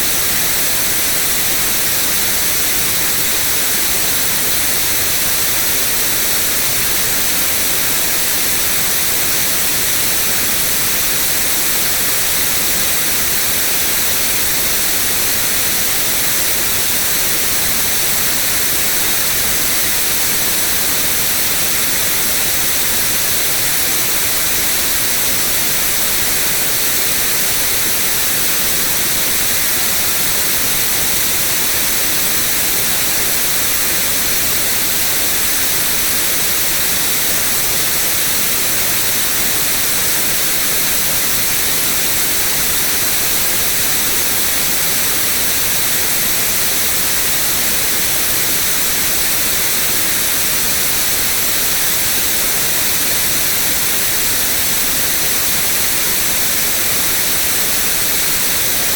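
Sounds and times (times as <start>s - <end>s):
white noise hiss: 0.0s - 58.9s.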